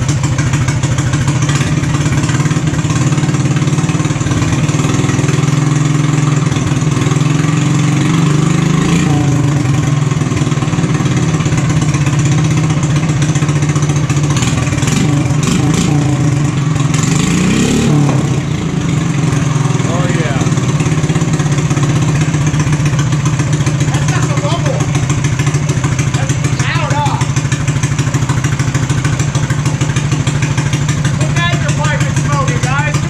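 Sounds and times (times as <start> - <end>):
single-cylinder engine running: 0.0 - 33.0.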